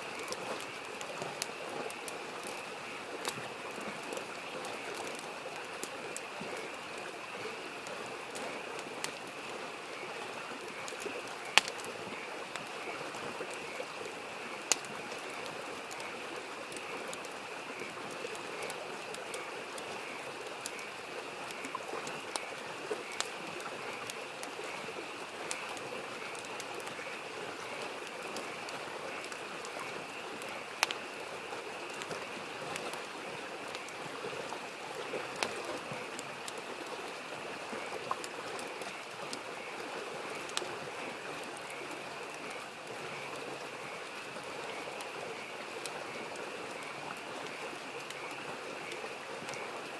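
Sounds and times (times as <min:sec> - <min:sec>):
frogs chorus: 0:00.0 - 0:49.9
rushing stream: 0:00.0 - 0:49.9
wood fire crackling: 0:00.0 - 0:49.9.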